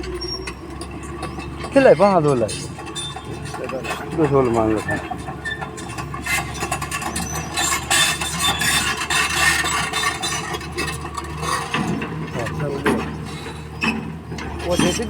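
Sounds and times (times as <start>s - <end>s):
excavator diesel engine running: 0.0s - 15.0s
rattling and scraping clatter: 0.0s - 15.0s.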